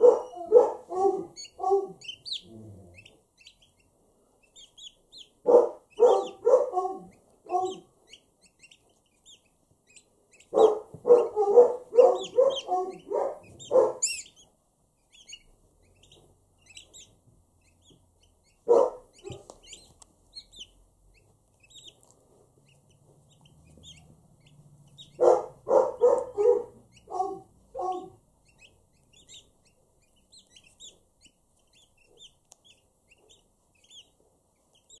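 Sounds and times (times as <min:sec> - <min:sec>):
poults peeping: 0:00.0 - 0:35.0.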